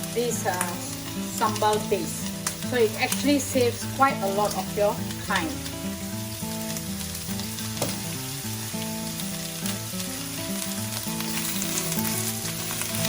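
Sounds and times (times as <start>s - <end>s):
food sizzling in hot oil: 0.0s - 13.0s
soft background music: 0.0s - 13.0s.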